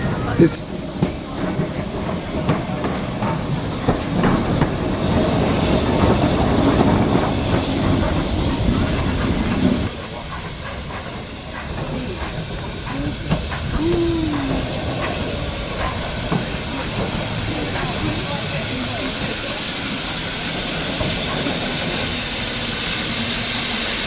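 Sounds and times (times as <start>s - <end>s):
steam hissing: 0.0s - 24.0s.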